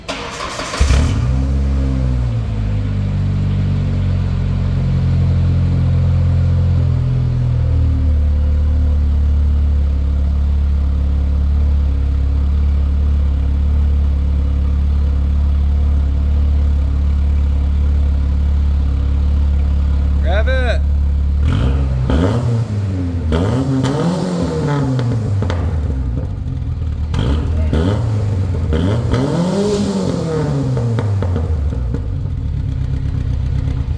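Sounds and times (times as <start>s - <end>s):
engine cranking and idling: 0.0s - 33.9s.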